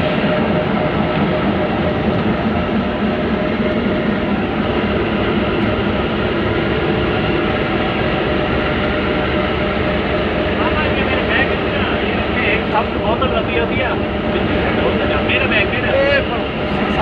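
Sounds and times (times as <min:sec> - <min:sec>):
diesel locomotive running: 0:00.0 - 0:17.0.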